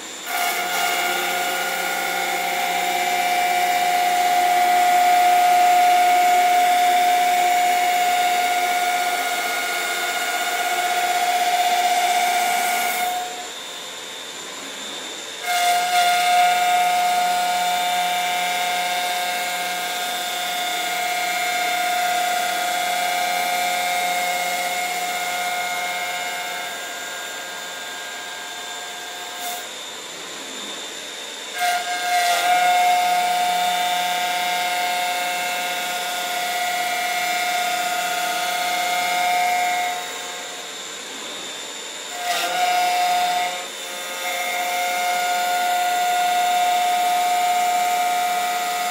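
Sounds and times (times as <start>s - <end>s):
wood lathe high whine: 0.0s - 48.9s.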